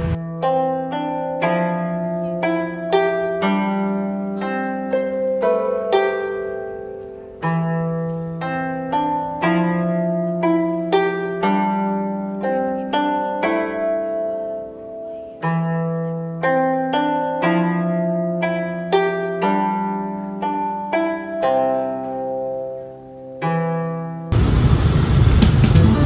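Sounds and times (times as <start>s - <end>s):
plucked string melody: 0.0s - 24.4s, 25.4s - 26.0s.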